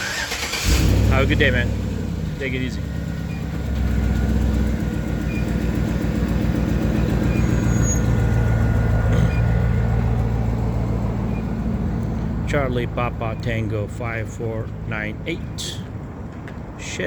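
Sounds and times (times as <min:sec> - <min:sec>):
car engine running: 0:00.0 - 0:16.2.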